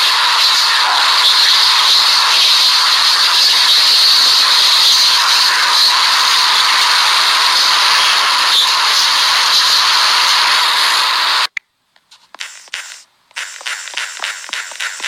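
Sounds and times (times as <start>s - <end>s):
harsh static hiss: 0.0s - 15.0s.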